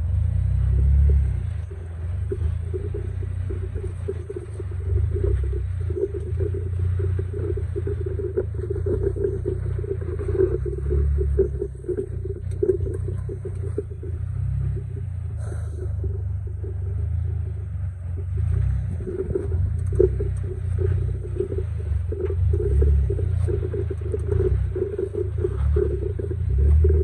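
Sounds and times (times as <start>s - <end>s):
vehicle engine low rumble: 0.0s - 27.0s.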